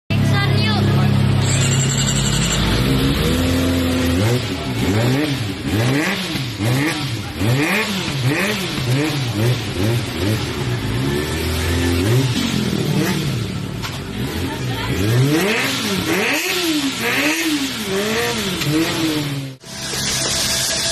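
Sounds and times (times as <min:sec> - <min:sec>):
motorcycle engine revving: 0:00.9 - 0:20.9.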